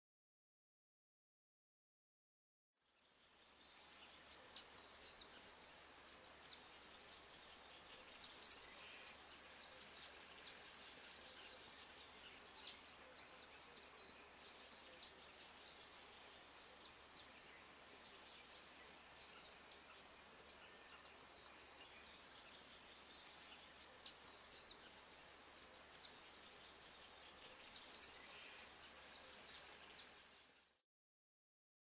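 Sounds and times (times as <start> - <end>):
high-pitched insect chorus: 2.9 - 30.7.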